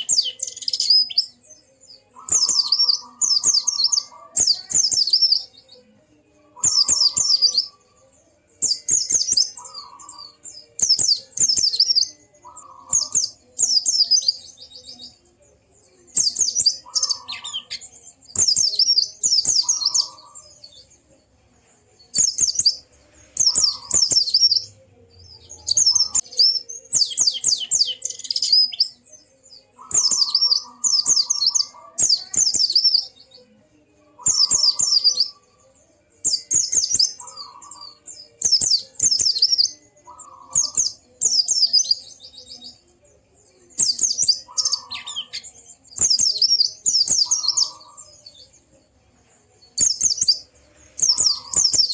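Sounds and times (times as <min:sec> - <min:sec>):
bird twittering song: 0:00.0 - 0:49.0, 0:49.6 - 0:51.9.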